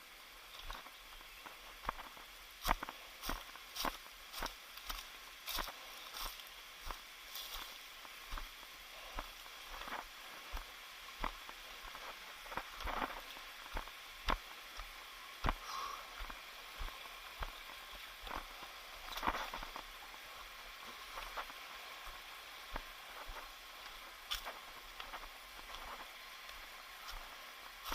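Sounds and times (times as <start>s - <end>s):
faint steady hiss: 0.0s - 27.9s
footsteps on a trail: 0.5s - 27.9s.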